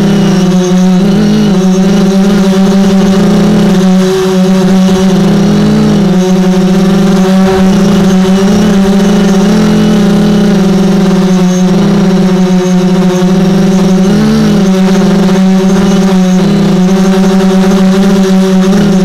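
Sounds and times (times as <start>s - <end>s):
drone motors humming: 0.0s - 19.0s.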